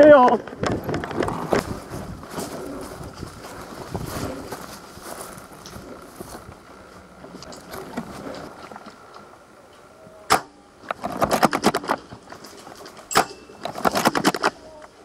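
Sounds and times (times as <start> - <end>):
rapid irregular clicking and rustling: 0.4 - 9.9, 10.8 - 15.0.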